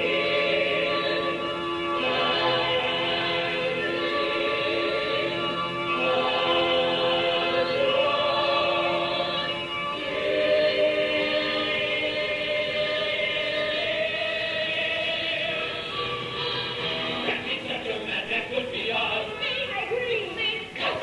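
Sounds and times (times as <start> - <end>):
chorus singing in harmony: 0.0 - 19.4, 20.7 - 21.0.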